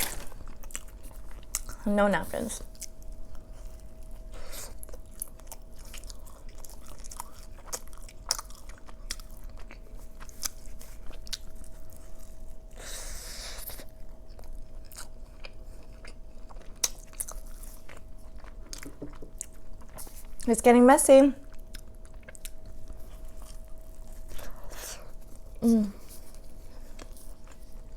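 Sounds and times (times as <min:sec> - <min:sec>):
close-miked chewing and biting: 0:00.0 - 0:01.8, 0:02.6 - 0:12.8, 0:13.5 - 0:20.5, 0:21.4 - 0:27.9.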